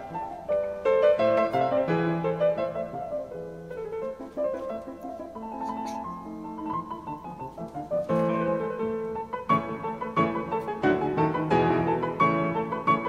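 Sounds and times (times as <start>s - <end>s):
piano melody over chords: 0.0s - 13.0s.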